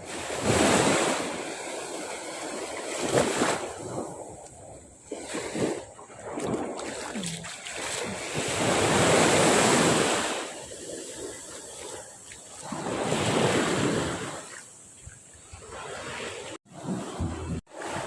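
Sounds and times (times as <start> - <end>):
sea waves breaking on beach: 0.0 - 18.0.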